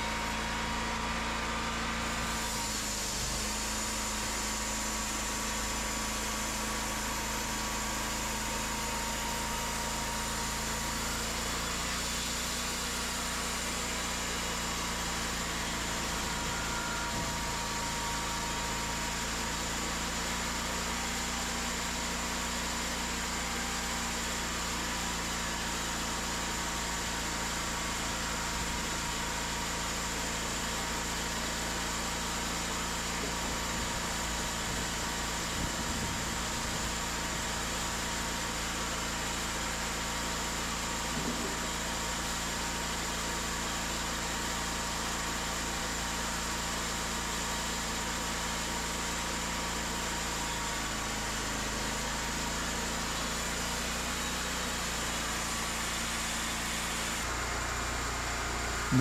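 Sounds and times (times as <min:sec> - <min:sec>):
sawmill engine hum: 0:00.0 - 0:59.0.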